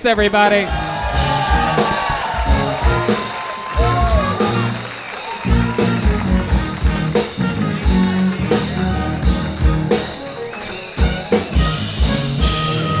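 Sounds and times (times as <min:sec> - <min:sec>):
drum kit beat: 0:00.0 - 0:13.0
guitar: 0:00.7 - 0:13.0.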